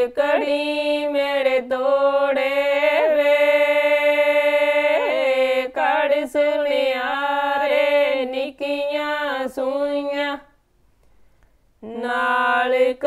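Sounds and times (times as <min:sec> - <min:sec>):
woman singing unaccompanied: 0:00.0 - 0:10.6, 0:11.8 - 0:13.0.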